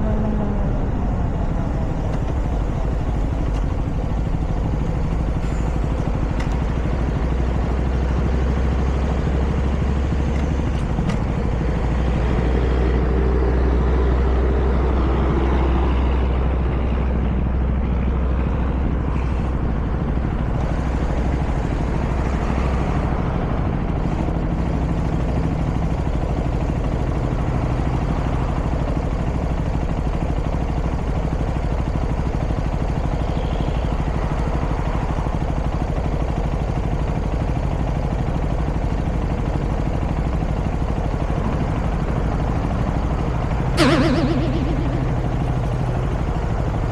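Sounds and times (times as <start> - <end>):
vehicle engine and road noise: 0.0 - 46.9.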